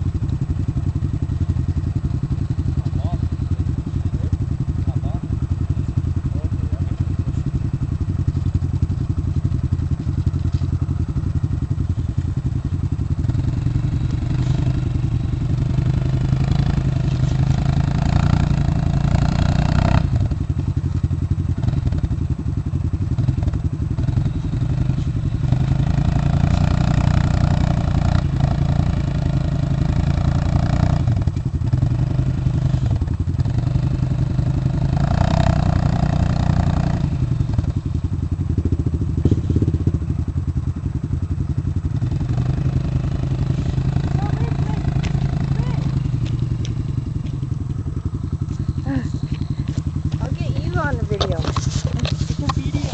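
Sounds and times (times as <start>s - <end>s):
atv engine revving: 0.0s - 52.9s.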